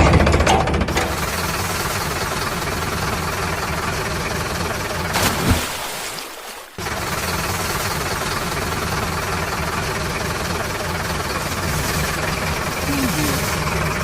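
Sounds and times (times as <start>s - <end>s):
heavy engine idling: 0.0s - 5.6s, 6.7s - 14.0s.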